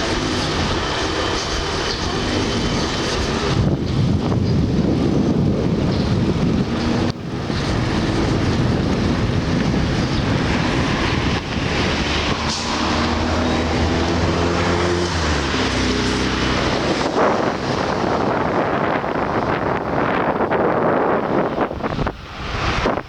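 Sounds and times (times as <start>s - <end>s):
road noise: 0.0s - 23.0s
vehicle engine hum: 0.0s - 23.0s
wind buffeting microphone: 0.0s - 23.0s.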